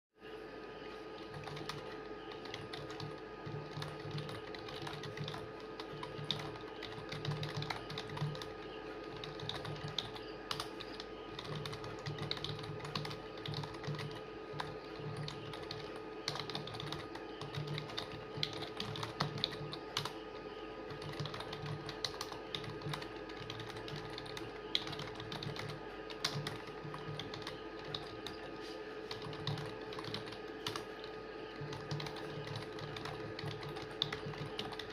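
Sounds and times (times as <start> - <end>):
steady low hum: 0.2 - 34.9
fast typing on keyboard: 1.2 - 34.9.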